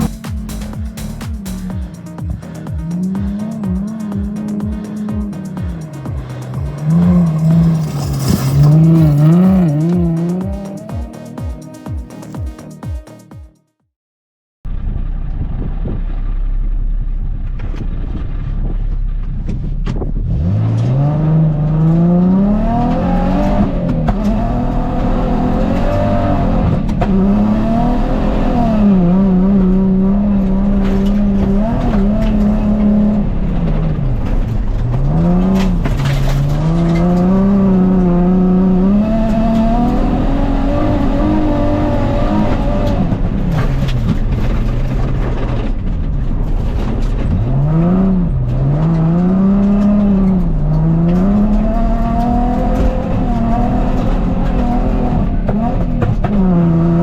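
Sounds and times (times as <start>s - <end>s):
car engine revving hard: 0.0s - 11.6s, 20.1s - 57.0s.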